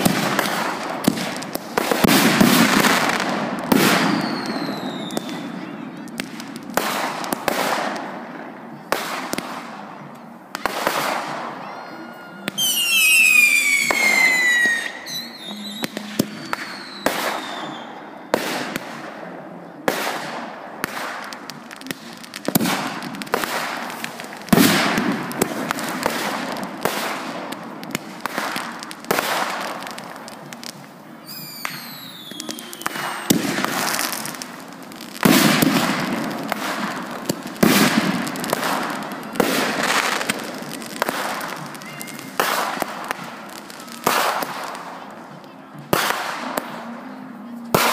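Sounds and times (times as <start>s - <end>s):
fireworks bangs and crackling: 0.0s - 47.9s
whistling fireworks: 0.0s - 47.9s.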